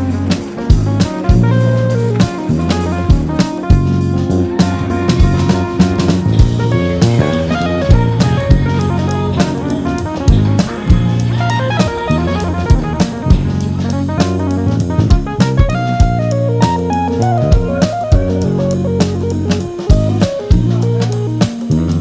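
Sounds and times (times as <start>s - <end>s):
band music with drums guitar and bass: 0.0s - 22.0s.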